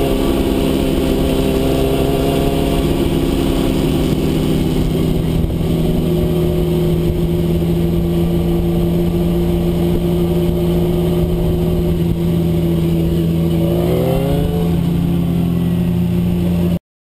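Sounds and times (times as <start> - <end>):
motorcycle engine cruising: 0.0 - 16.8
passing motorcycle engine: 0.0 - 16.8.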